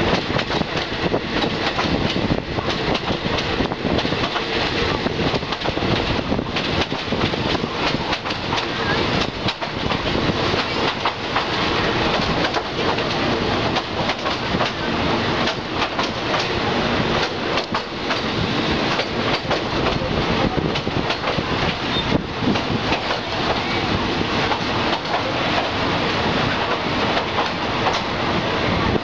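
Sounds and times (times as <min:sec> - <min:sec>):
wheels clacking over rail joints: 0:00.0 - 0:28.2
rushing air: 0:00.0 - 0:29.0
train wheels rumbling: 0:00.0 - 0:29.0.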